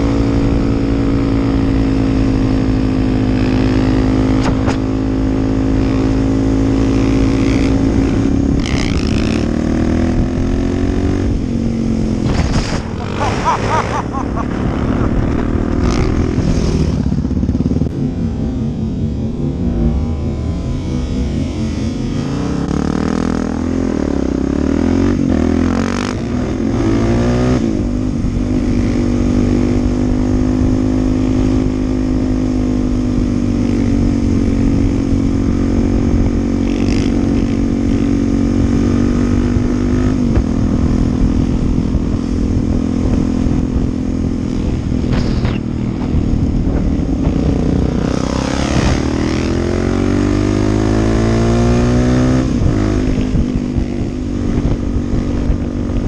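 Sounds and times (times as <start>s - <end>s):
dirt bike engine: 0.0s - 56.0s
wind rumble on microphone: 0.0s - 56.0s.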